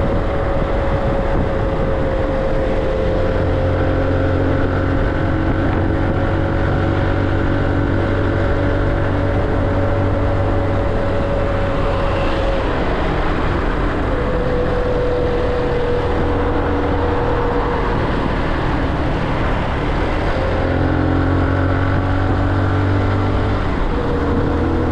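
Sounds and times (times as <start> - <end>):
wind noise: 0.0 - 24.9.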